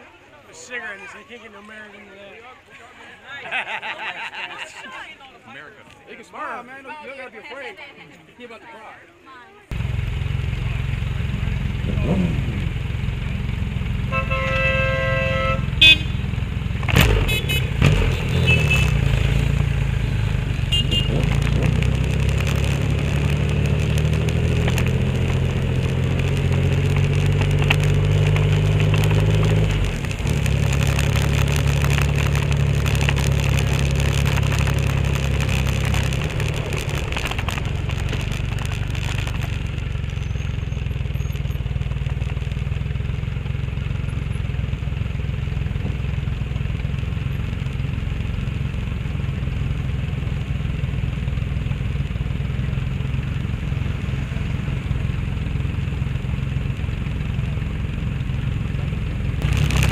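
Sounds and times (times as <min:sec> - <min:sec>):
motorcycle engines running: 0:09.7 - 0:59.9.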